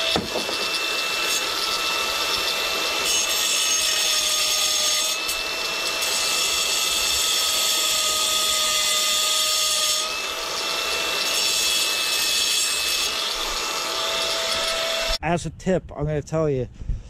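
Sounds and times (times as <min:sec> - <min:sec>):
angle grinder cutting stone: 0:00.0 - 0:15.2.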